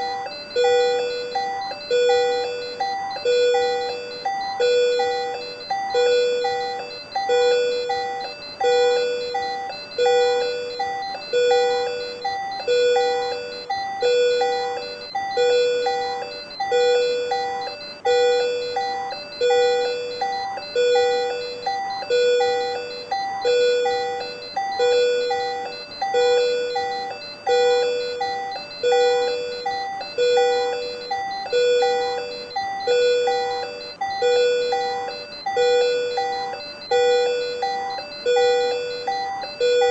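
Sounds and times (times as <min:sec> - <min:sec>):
patient monitor alarm beeping: 0:00.0 - 0:39.9.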